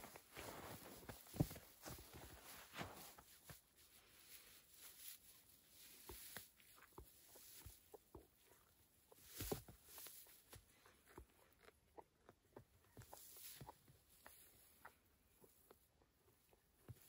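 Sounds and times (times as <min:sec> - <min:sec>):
calf feeding on hay and snow: 0:00.0 - 0:17.0.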